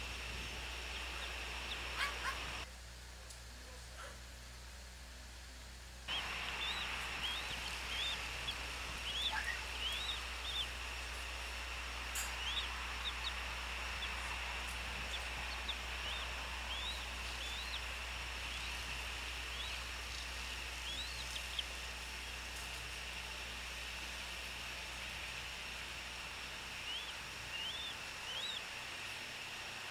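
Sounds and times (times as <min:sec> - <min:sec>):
low hum: 0:00.0 - 0:29.9
steady high-pitched hiss: 0:00.0 - 0:29.9.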